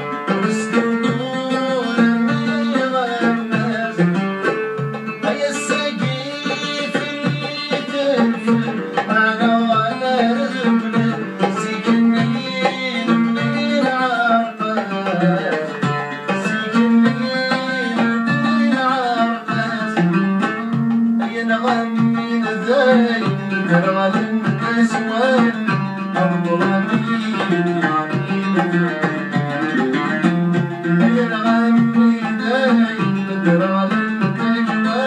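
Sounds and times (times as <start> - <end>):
man singing: 0.0 - 35.0
plucked string instruments: 0.0 - 35.0.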